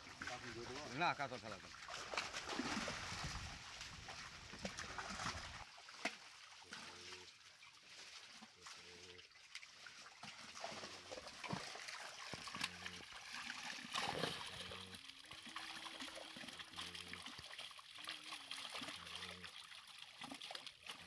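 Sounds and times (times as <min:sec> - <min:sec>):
fish splashing in a net: 0:01.6 - 0:21.0.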